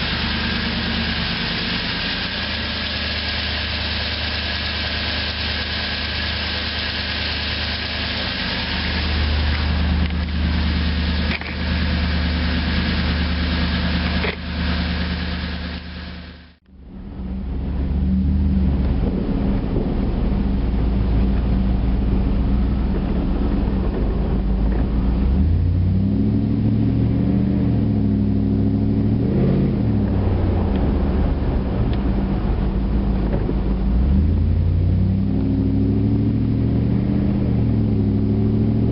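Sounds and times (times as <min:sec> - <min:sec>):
truck engine revving with ticking: 0:00.0 - 0:38.9.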